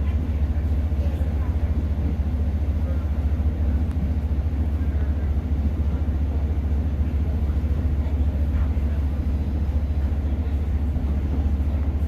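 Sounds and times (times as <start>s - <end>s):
diesel train engine rumble: 0.0s - 12.0s
train wheels on rails: 0.0s - 12.0s.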